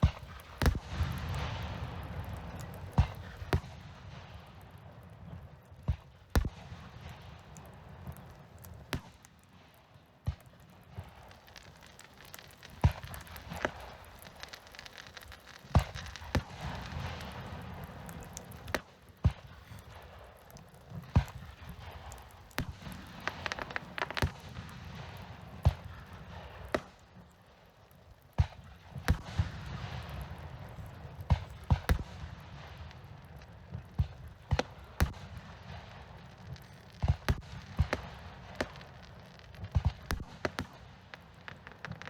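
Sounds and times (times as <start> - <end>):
fireworks bangs: 0.0 - 9.3, 10.2 - 27.3, 28.4 - 42.0
fireworks crackle: 0.0 - 42.0.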